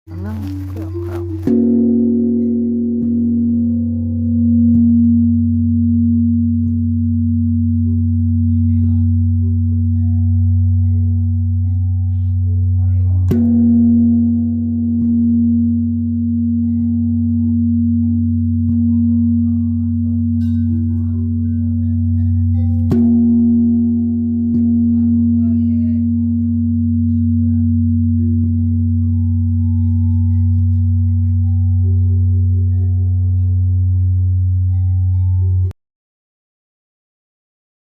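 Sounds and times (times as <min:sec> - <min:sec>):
large bell ringing: 0:00.1 - 0:35.7.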